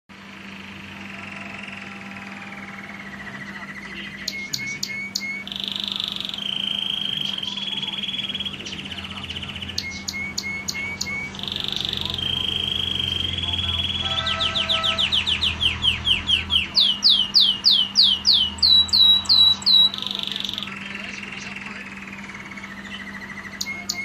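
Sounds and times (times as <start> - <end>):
canary singing trills: 0.1 - 24.0
steady low hum: 0.1 - 24.0.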